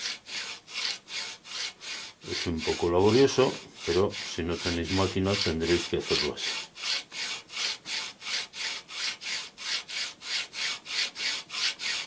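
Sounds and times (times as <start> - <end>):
hand file rasping on a coin: 0.0 - 12.0.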